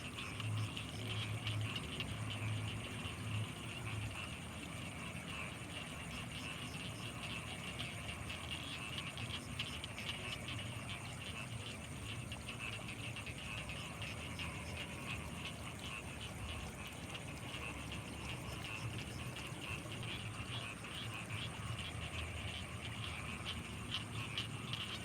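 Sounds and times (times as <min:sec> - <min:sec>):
frogs and insects calling: 0:00.0 - 0:25.0.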